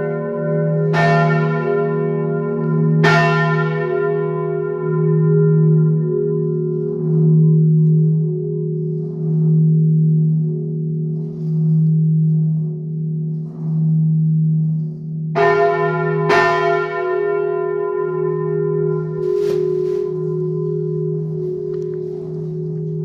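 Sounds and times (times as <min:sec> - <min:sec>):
deep bell hum: 0:00.0 - 0:23.0.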